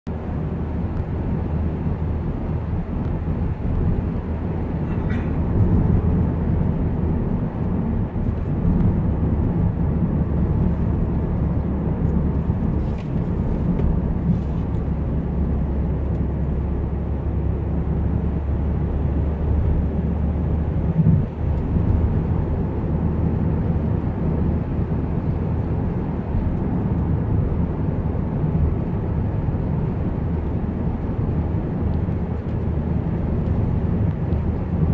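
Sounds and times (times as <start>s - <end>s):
van engine and road rumble: 0.1s - 34.9s.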